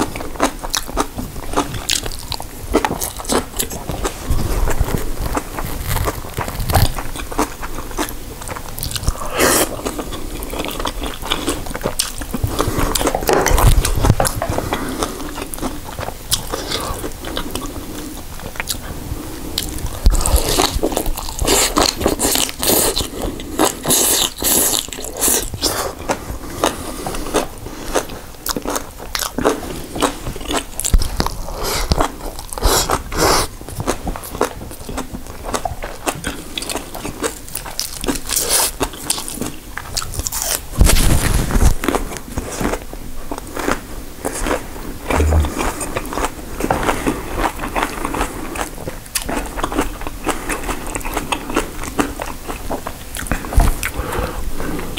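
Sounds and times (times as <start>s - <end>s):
crunchy biting and chewing: 0.0s - 19.0s, 19.6s - 54.9s.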